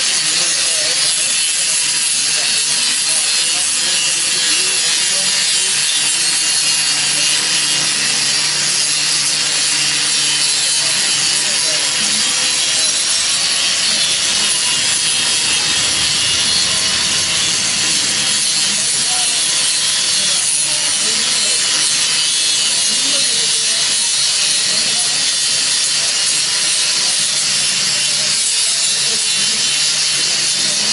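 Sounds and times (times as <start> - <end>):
angle grinder grinding steel: 0.0 - 30.9.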